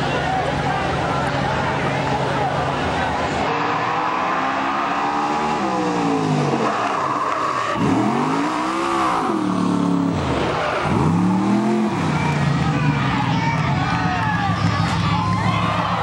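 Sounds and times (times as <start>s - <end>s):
race cart engine revving: 0.0s - 16.0s.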